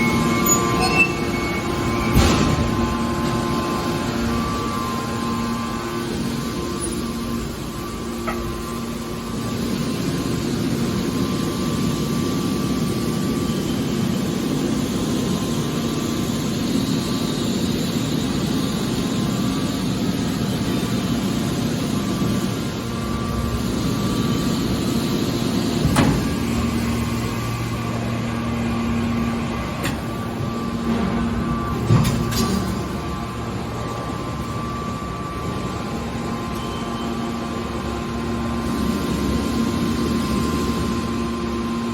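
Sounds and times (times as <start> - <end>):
baler machine hum: 0.0 - 41.9.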